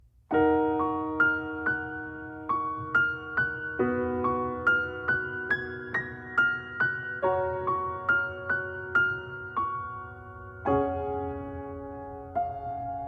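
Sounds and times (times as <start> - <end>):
slow piano music: 0.2 - 13.0.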